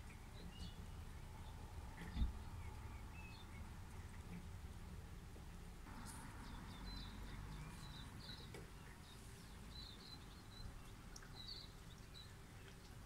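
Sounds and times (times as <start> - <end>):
small birds chirping: 0.0 - 4.7, 5.9 - 13.0
low steady rumble: 0.0 - 11.0.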